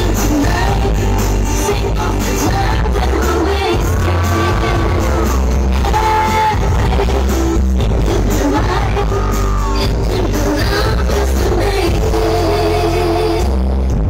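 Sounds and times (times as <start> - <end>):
loud music with sung vocal: 0.0 - 14.0.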